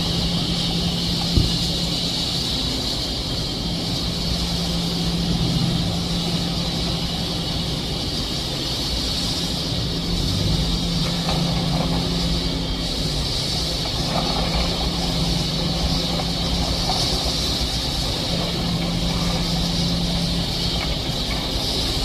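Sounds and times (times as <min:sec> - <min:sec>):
constant high hiss: 0:00.0 - 0:22.0
excavator diesel engine running: 0:00.0 - 0:22.0.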